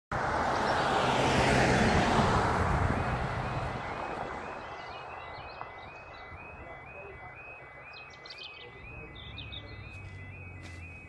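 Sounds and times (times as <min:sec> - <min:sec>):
car passing: 0:00.1 - 0:11.0
level crossing warbling alarm: 0:01.8 - 0:11.0.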